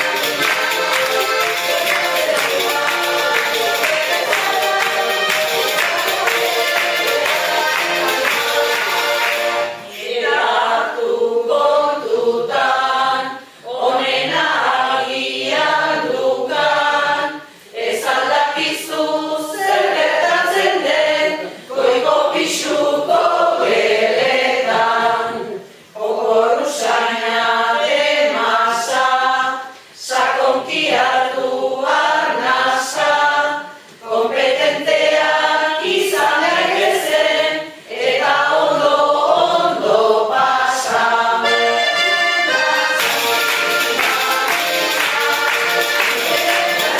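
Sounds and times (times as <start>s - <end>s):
group of voices singing: 0.0s - 46.9s.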